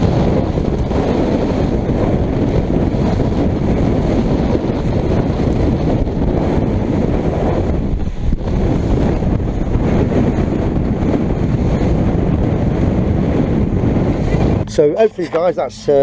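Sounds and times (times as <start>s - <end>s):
motorboat running noise: 0.0s - 16.0s
waves: 0.0s - 16.0s
wind rumbling on microphone: 0.0s - 16.0s.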